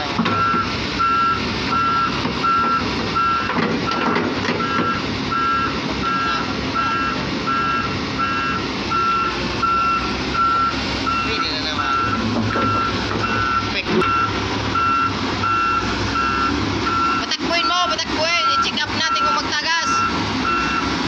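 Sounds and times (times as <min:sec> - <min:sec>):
excavator engine running: 0:00.0 - 0:21.0
reversing alarm beeping: 0:00.3 - 0:21.0.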